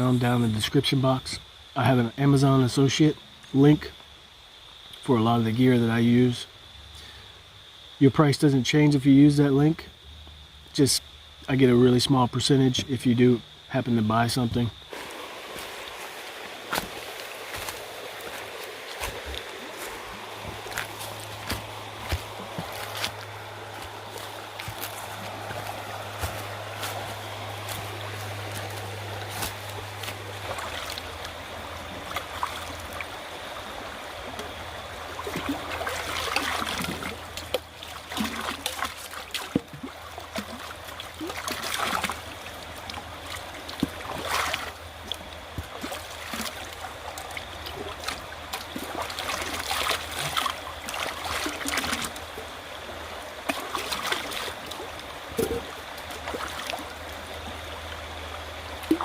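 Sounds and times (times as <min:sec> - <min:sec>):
river water running: 0:00.0 - 0:59.0.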